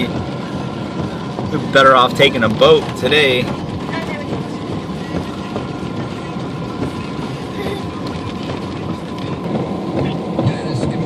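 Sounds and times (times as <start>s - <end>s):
tyres running through water: 0.0s - 11.0s.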